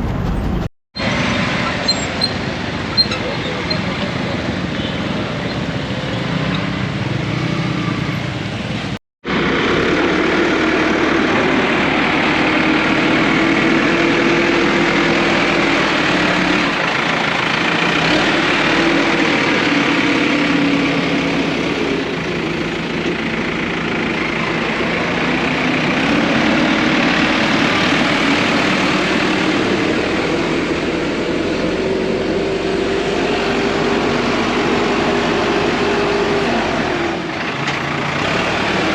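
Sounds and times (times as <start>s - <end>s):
engine humming under load: 0.0s - 38.9s.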